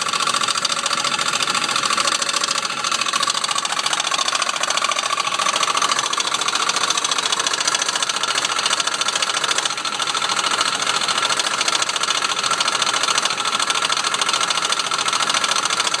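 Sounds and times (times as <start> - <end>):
car engine running: 0.0 - 16.0
rapid chattering from engine bay: 0.0 - 16.0.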